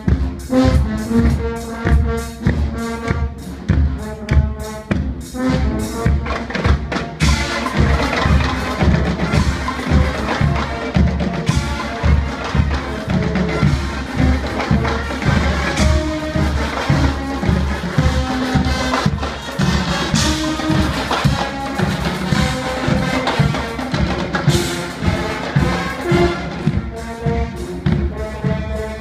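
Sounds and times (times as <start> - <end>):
brass horns: 0.0 - 29.0
pounding drumbeat: 0.0 - 29.0.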